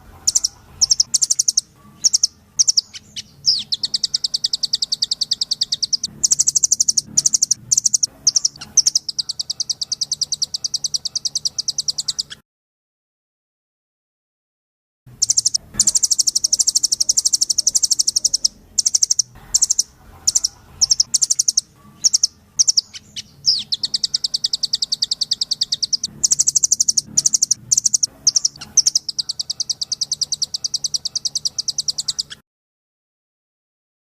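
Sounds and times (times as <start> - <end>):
bird singing rapid trills: 0.0 - 12.4, 15.1 - 32.4.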